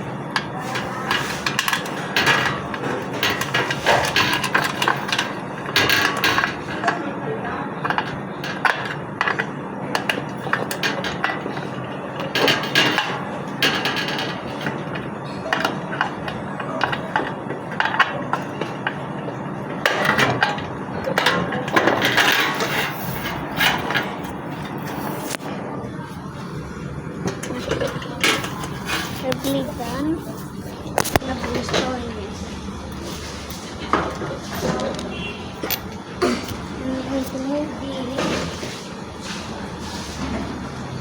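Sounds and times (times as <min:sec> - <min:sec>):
hard objects knocking and clattering: 0:00.0 - 0:32.2, 0:32.9 - 0:38.8
steady background noise: 0:00.0 - 0:41.0.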